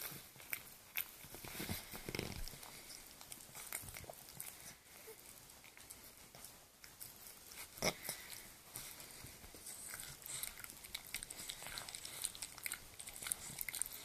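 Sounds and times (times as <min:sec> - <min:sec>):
dog licking and gumming chew: 0:00.0 - 0:14.0.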